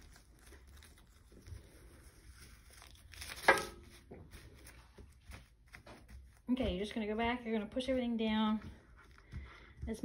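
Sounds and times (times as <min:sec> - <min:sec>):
tape crinkling and rustling: 0:00.0 - 0:10.0.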